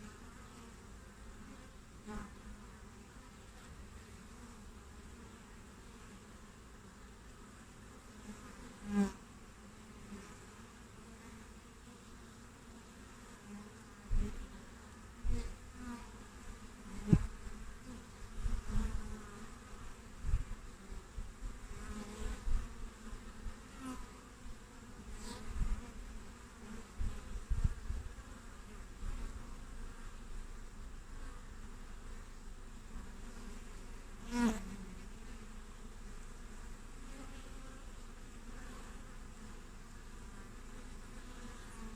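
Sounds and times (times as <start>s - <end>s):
bees flying past buzzing: 0.0s - 41.9s
bees humming: 0.0s - 41.9s.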